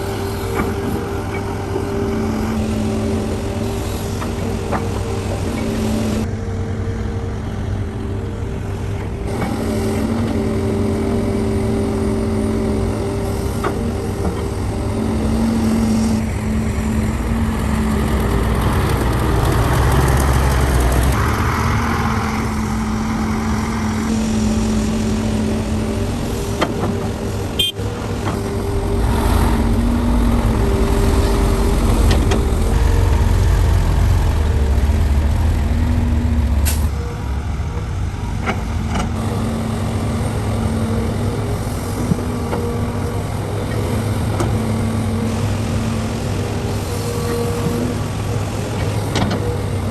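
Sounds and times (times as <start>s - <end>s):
heavy diesel engines rumbling: 0.0s - 49.9s.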